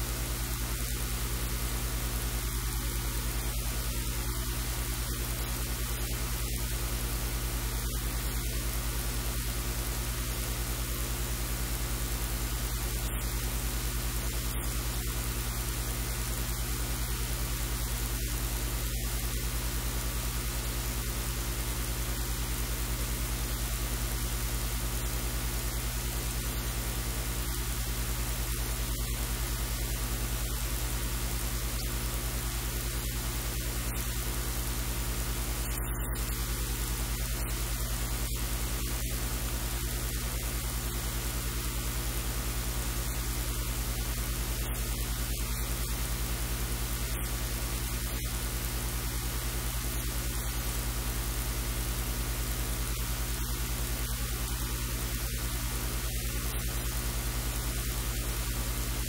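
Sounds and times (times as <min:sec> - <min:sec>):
low electrical hum: 0:00.0 - 0:59.0
steady hiss: 0:00.0 - 0:59.0.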